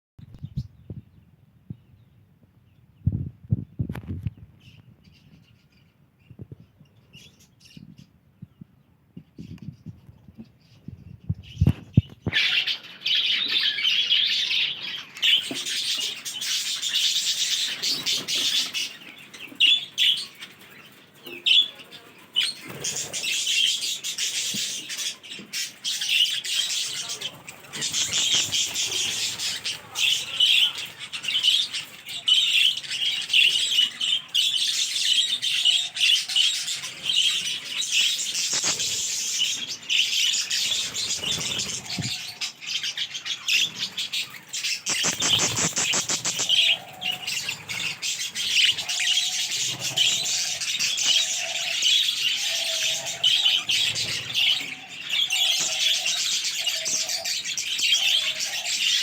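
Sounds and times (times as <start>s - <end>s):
budgerigars chattering and chirping: 11.4s - 59.0s.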